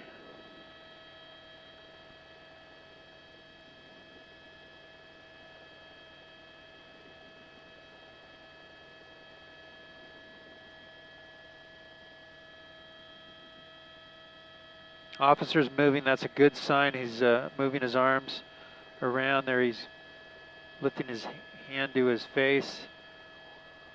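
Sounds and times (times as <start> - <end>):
electrical hum and whine: 0.0 - 23.9.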